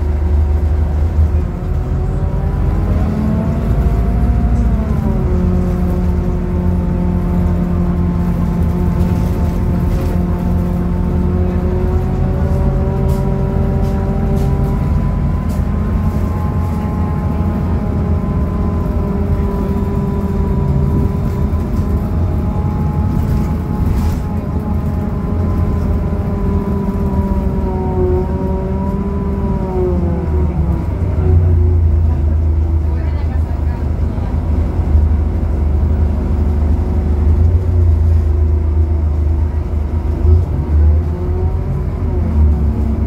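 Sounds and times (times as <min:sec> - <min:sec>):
bus diesel engine rumble: 0:00.0 - 0:43.0.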